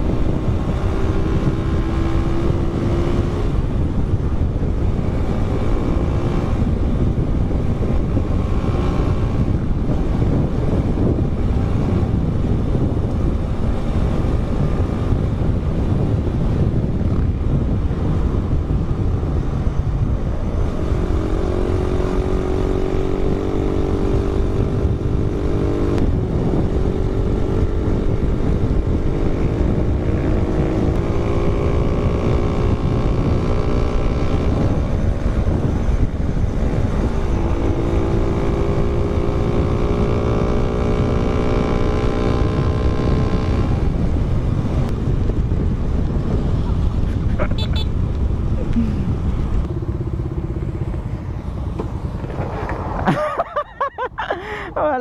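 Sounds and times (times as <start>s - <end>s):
motorcycle engine drone: 0.0s - 55.0s
wind noise on microphone: 0.0s - 55.0s.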